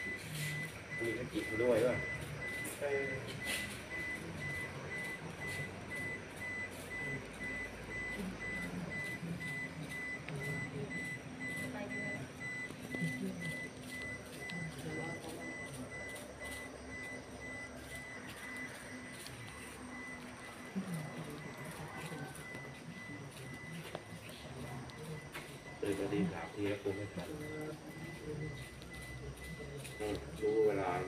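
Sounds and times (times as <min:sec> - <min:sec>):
fast high warning beeps: 0:00.0 - 0:31.0.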